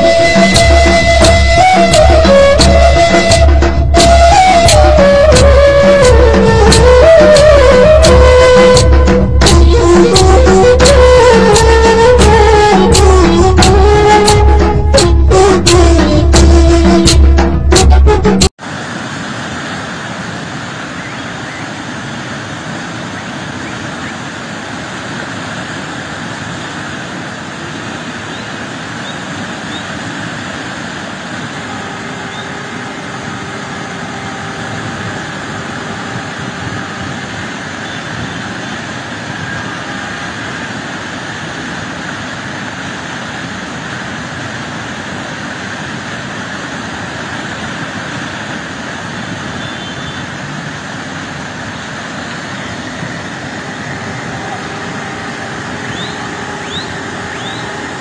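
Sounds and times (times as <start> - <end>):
waterfall rushing over rock: 0.0 - 17.3, 18.6 - 58.0.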